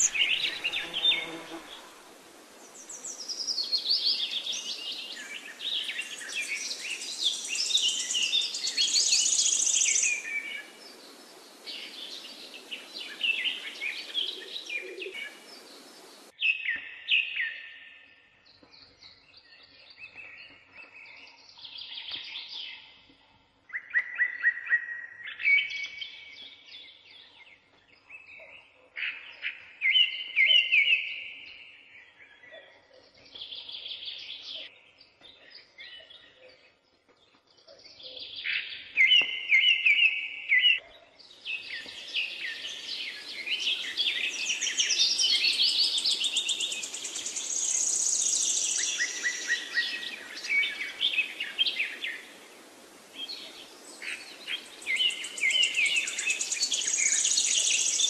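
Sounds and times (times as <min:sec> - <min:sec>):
birds singing: 0:00.0 - 0:23.1, 0:23.7 - 0:58.0.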